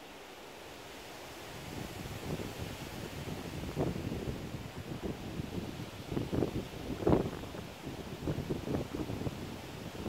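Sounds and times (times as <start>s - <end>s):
wind buffeting microphone: 1.6s - 10.0s.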